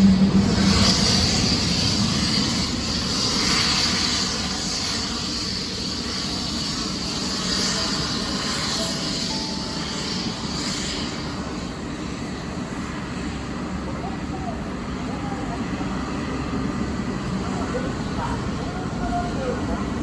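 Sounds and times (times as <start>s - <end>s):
jet engines rushing and whining: 0.0s - 20.0s.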